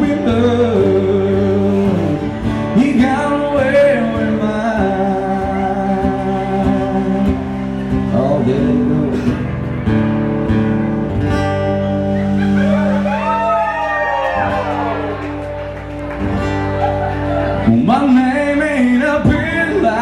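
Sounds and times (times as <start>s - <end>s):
amplified acoustic guitar country song: 0.0s - 20.0s.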